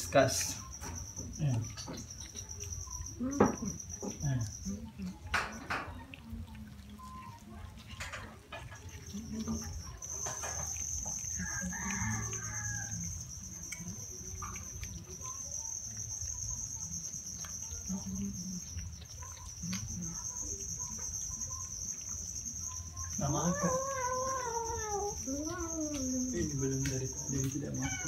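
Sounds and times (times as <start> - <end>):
high-pitched insect chirring: 0.0 - 6.0, 7.0 - 28.0
cats chewing: 0.0 - 28.0.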